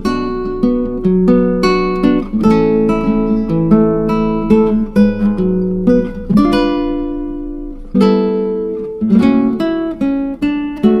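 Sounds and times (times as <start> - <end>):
acoustic guitar chords: 0.0 - 11.0.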